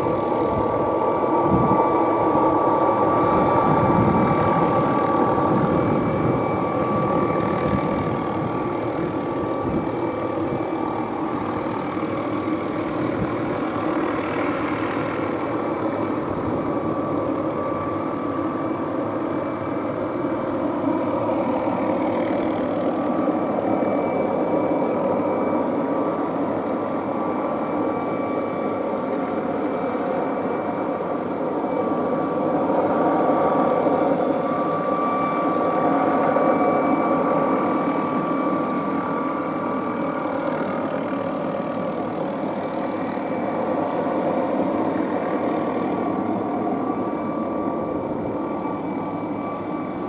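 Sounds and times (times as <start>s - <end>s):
helicopter turbine whine and rumble: 0.0s - 50.0s.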